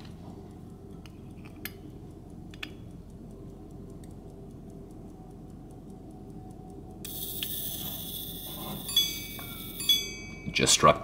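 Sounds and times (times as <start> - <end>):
fast watch ticking: 0.5 - 11.0.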